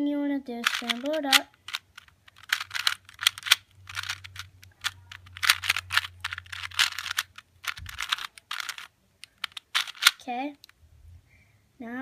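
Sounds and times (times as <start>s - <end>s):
puzzle cube clicking and rattling: 0.6s - 10.8s.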